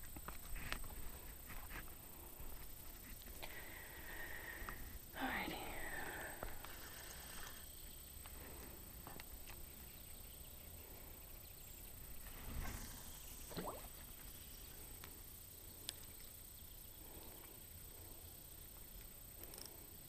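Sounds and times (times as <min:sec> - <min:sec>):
rustle: 0:00.0 - 0:20.0.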